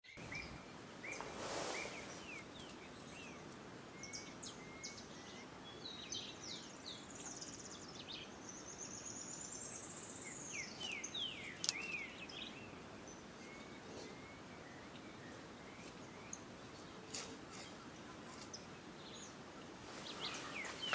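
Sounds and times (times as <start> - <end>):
background hiss: 0.1 - 20.9
birds chirping and whistling: 0.1 - 20.9.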